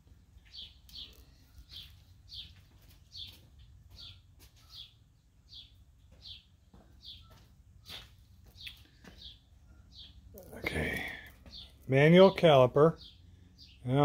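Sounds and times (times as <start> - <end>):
bird chirping: 0.1 - 14.0.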